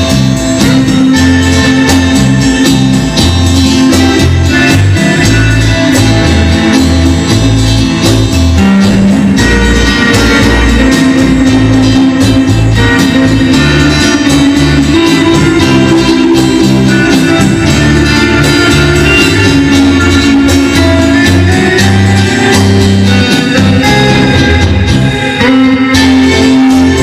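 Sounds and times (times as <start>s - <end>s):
bass line: 0.0s - 27.0s
rock and roll music: 0.0s - 27.0s.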